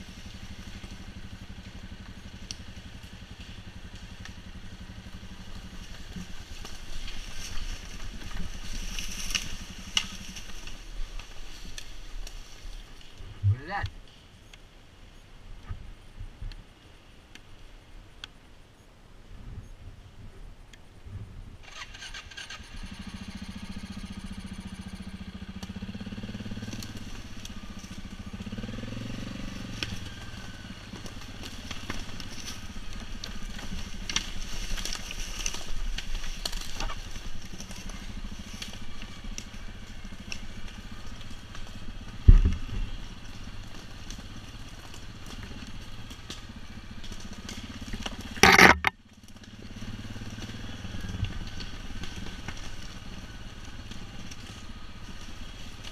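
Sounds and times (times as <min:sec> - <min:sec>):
quad engine running: 0:00.0 - 0:13.7, 0:21.6 - 0:55.9
tyres crunching leaves and branches: 0:00.0 - 0:14.4, 0:21.7 - 0:55.9.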